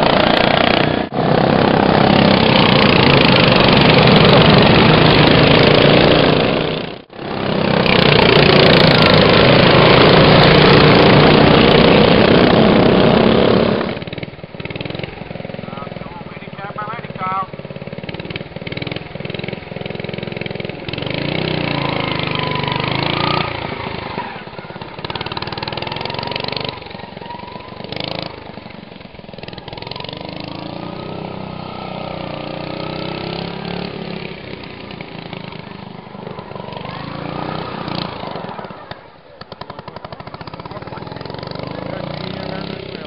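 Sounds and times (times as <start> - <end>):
lawn mower engines revving: 0.0 - 43.0.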